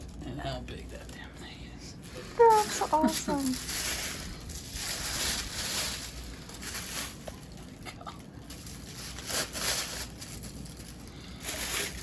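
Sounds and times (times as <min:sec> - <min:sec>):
packaging crinkling and rustling: 0:02.0 - 0:12.0.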